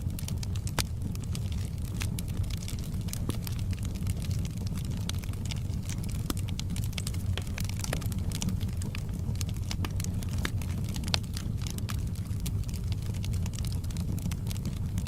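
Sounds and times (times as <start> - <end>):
fireplace fire crackling: 0.0 - 15.0
low rumble of flames: 0.0 - 15.0.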